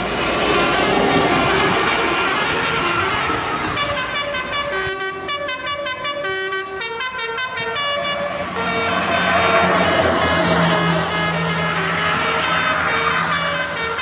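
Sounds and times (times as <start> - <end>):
bus musical horn tune: 0.0 - 14.0
passing traffic: 0.0 - 14.0.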